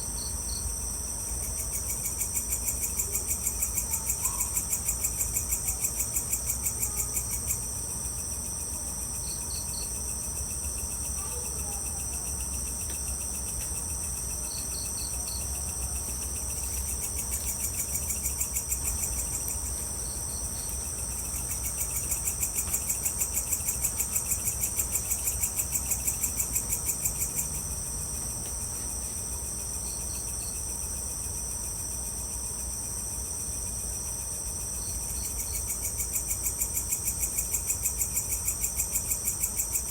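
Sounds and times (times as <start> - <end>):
insects trilling: 0.0 - 39.9
pulsing insect chirp: 0.0 - 39.9.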